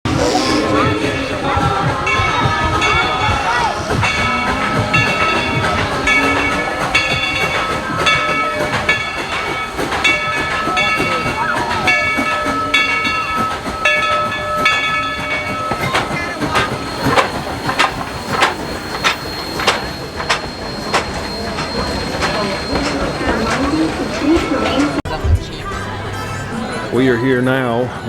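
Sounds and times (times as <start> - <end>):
steam locomotive bell ringing: 0.1 - 28.0
train chuffs and clanks: 0.1 - 28.0.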